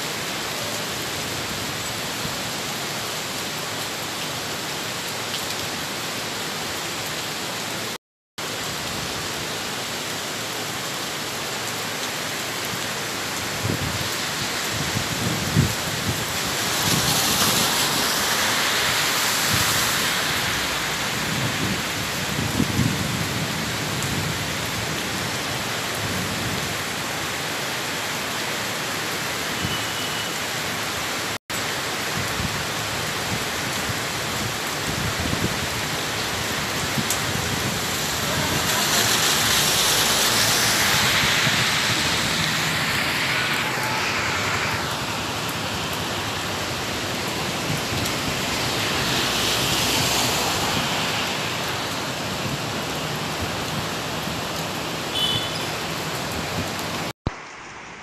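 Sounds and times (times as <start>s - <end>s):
heavy rain on a wet road: 0.0s - 58.0s.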